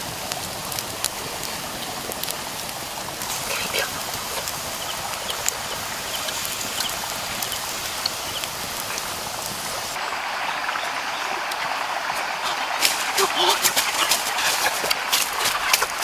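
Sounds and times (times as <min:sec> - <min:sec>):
campfire crackling and sizzling: 0:00.0 - 0:16.0
outdoor background hiss: 0:00.0 - 0:16.0.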